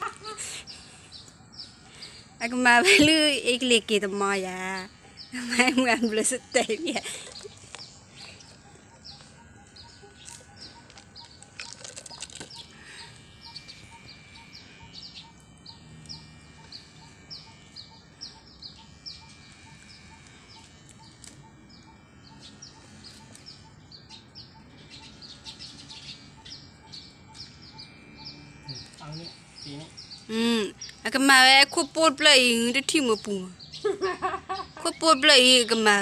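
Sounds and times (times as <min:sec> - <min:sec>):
small bird chirping: 0:00.0 - 0:33.9.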